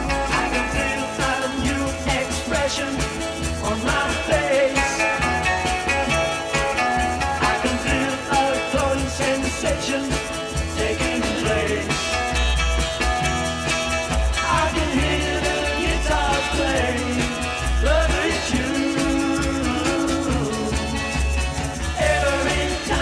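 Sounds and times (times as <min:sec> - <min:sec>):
person singing: 0:00.0 - 0:12.4, 0:14.4 - 0:23.0
pop band playing: 0:00.0 - 0:23.0.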